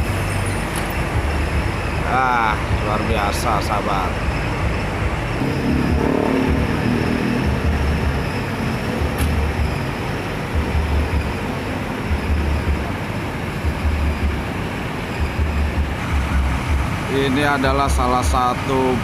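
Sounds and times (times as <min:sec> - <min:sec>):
bus engine idling: 0:00.0 - 0:19.0
road traffic passing: 0:00.0 - 0:19.0.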